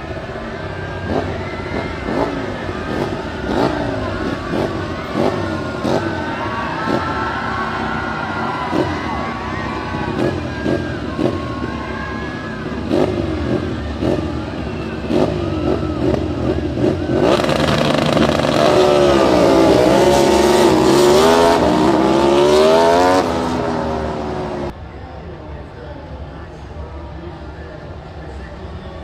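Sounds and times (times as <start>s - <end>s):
motorcycle engines revving: 0.0s - 24.8s.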